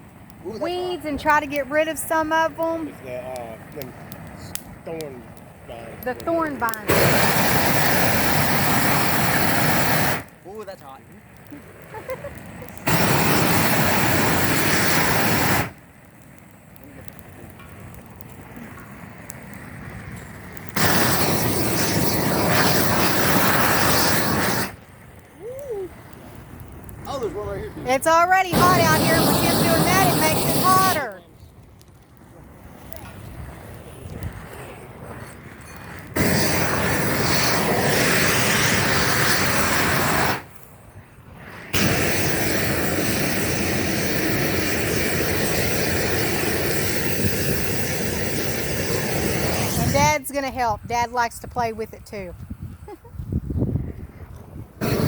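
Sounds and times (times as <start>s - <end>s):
torch flame rushing: 0.0s - 55.0s.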